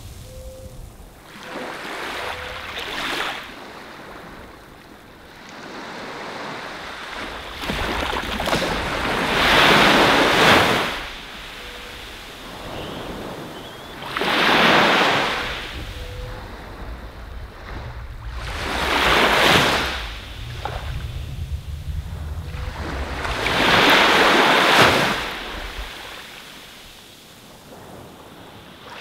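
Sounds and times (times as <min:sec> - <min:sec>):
small waves breaking on a beach: 0:01.0 - 0:29.0.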